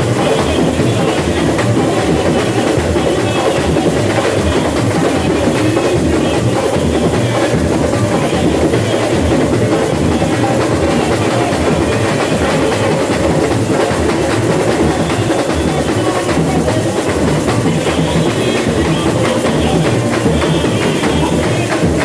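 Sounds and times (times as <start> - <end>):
samba drumming: 0.0 - 22.0.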